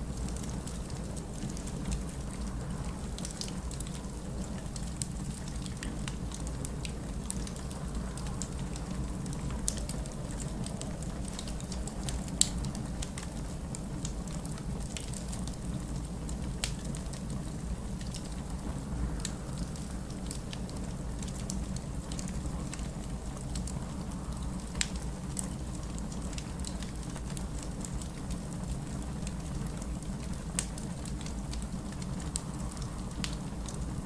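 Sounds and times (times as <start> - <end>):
low fire rumble: 0.0 - 34.0
wood fire crackling and popping: 0.0 - 34.0.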